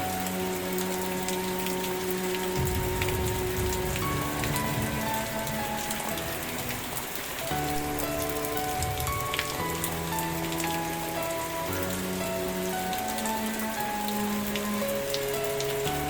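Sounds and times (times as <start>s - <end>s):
sharper raindrop ticks: 0.0s - 16.0s
soft music of held chords: 0.0s - 16.0s
steady rain: 0.0s - 16.0s.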